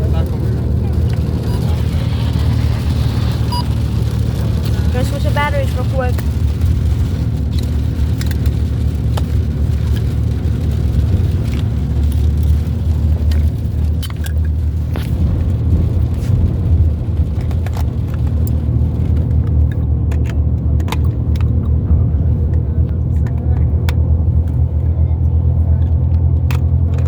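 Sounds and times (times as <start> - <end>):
car road rumble inside cabin: 0.0 - 27.0.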